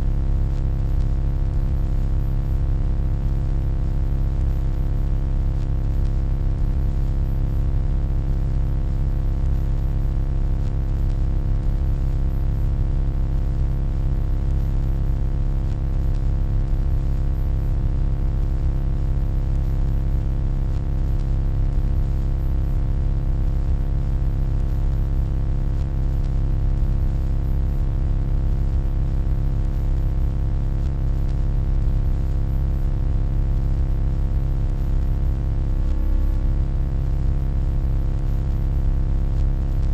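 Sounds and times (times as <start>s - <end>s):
low electronic hum: 0.0s - 39.9s.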